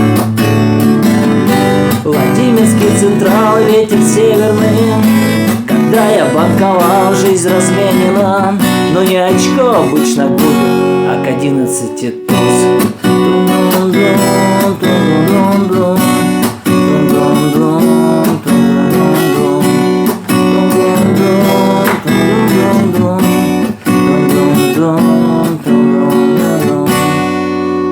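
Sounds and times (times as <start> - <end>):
acoustic guitar strumming: 0.0 - 27.9.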